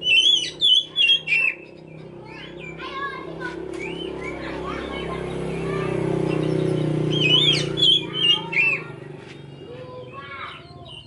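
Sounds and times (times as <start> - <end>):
songbird chirping and whistling: 0.0 - 11.0.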